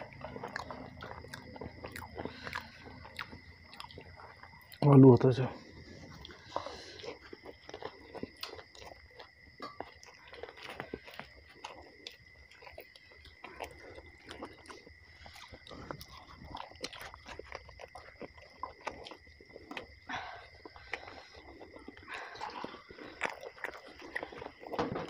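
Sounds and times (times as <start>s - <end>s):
wet chewing: 0.0s - 25.0s.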